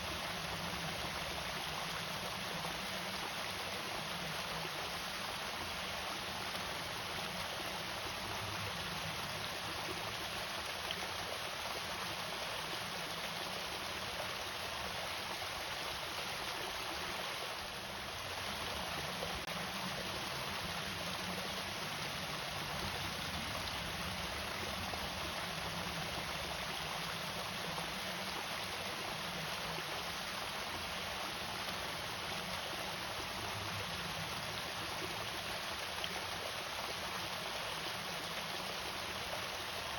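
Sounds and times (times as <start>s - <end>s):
water rushing over small waterfall: 0.0s - 39.9s.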